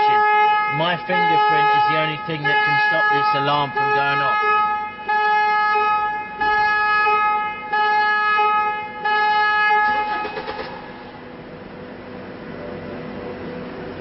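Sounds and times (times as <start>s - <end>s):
car alarm horn blasts: 0.0s - 11.3s.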